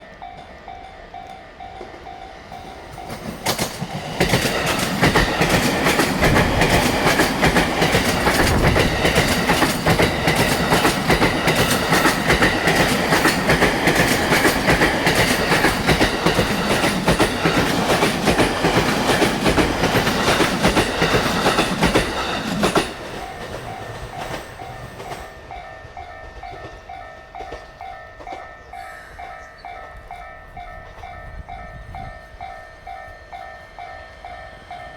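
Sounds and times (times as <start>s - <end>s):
level crossing warning bell: 0.0s - 34.9s
train wheels clattering on rails: 0.0s - 34.9s.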